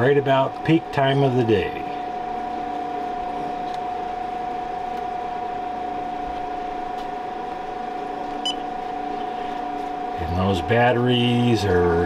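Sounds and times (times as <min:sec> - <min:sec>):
cooling fans running: 0:00.0 - 0:12.0
high whine: 0:00.0 - 0:12.0.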